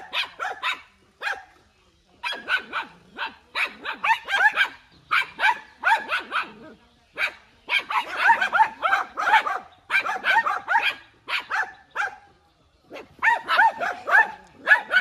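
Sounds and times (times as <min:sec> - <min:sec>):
small dogs yapping: 0:00.0 - 0:01.5, 0:02.2 - 0:12.3, 0:12.9 - 0:15.0.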